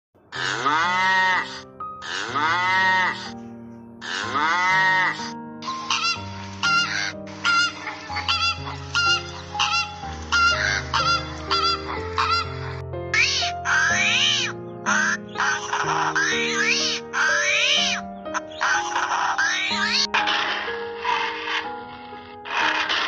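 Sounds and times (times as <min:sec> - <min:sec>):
soft background music: 0:00.3 - 0:23.0
long fowl calls: 0:00.4 - 0:03.3, 0:04.0 - 0:23.0
flamingos honking: 0:04.2 - 0:23.0.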